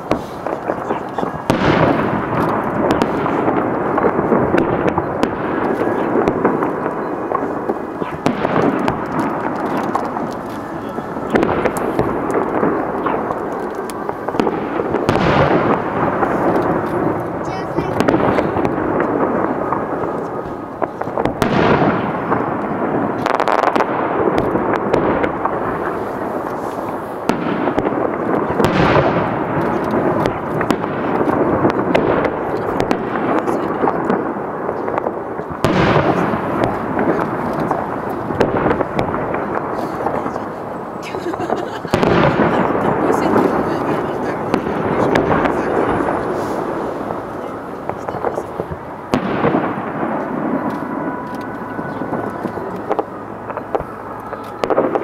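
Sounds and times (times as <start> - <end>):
fireworks booming: 0.0 - 55.0
fireworks crackling pops: 0.0 - 55.0.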